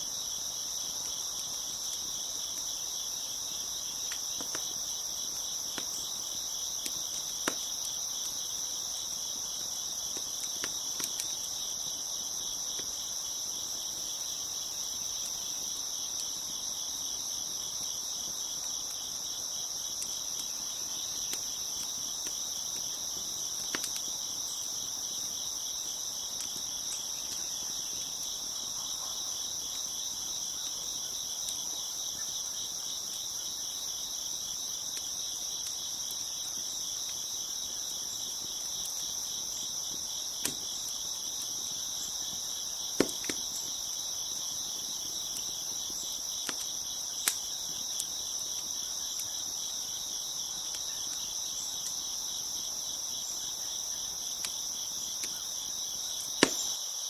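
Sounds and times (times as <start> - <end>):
crickets chirping: 0.0 - 57.0
wood fire crackling: 0.1 - 56.8.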